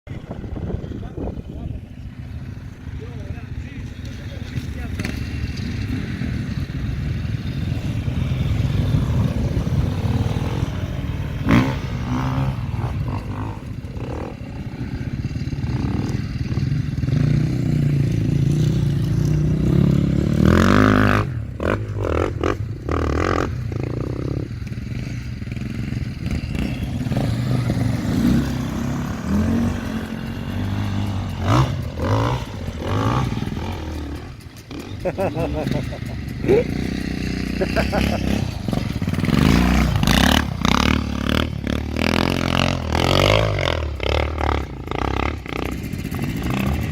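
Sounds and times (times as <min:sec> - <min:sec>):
motocross engines revving: 0:00.2 - 0:46.9.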